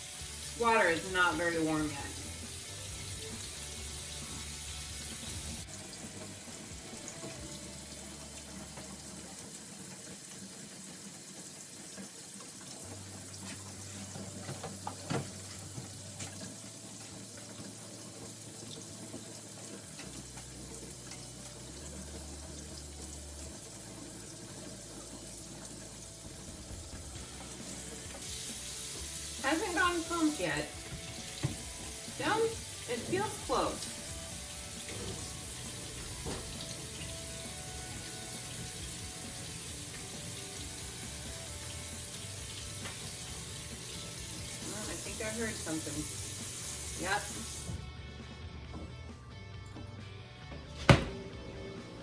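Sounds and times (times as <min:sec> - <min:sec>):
tap water running: 0:00.0 - 0:47.9.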